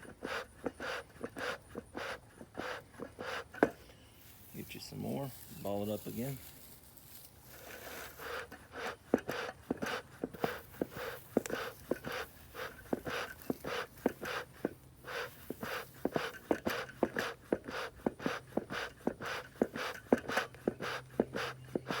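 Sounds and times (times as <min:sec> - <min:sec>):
bellows puffing air: 0:00.0 - 0:04.8, 0:07.5 - 0:22.0.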